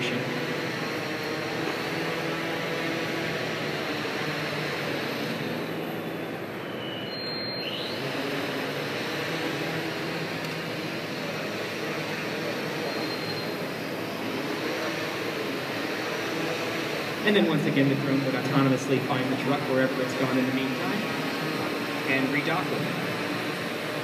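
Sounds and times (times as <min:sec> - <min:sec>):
drone propellers humming: 0:00.0 - 0:24.0.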